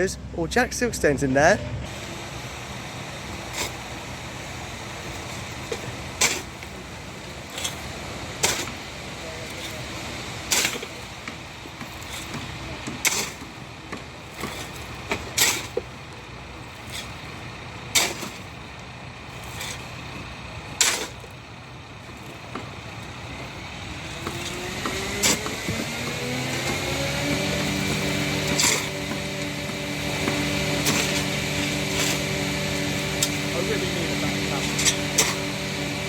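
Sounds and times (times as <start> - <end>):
heavy machinery engine revving: 1.8 - 36.0.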